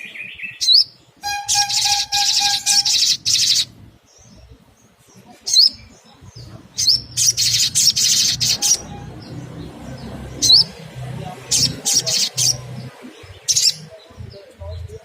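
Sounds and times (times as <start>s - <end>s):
sharp upswept bird notes: 0.0s - 4.4s, 5.5s - 14.2s
songbird rapid high chirping: 0.0s - 15.0s.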